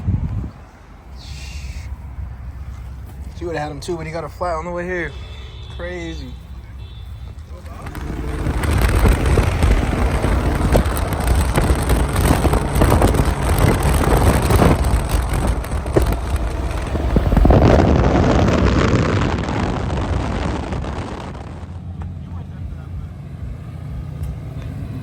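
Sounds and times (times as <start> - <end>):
loud car engine and exhaust: 0.0 - 25.0.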